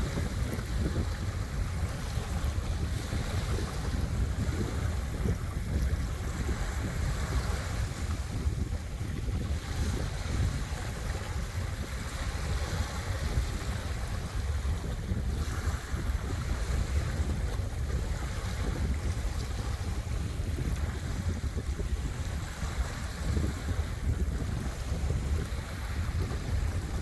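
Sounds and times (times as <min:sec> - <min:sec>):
waves washing ashore: 0:00.0 - 0:27.0
wind buffeting microphone: 0:00.0 - 0:27.0.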